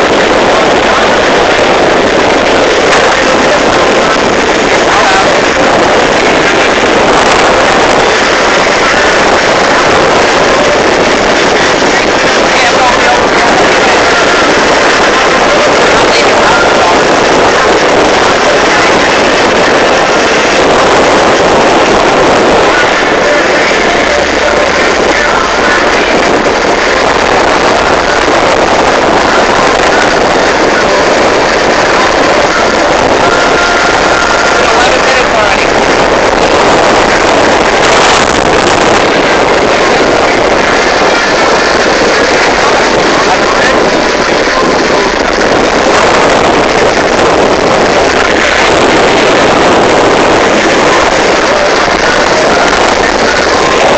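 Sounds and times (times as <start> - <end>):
vehicle rushing noise: 0.0 - 53.9.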